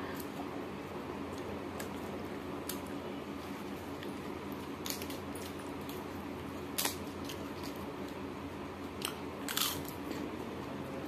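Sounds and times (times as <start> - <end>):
low steady hum: 0.0 - 11.0
crunchy eating crackles: 1.2 - 11.0.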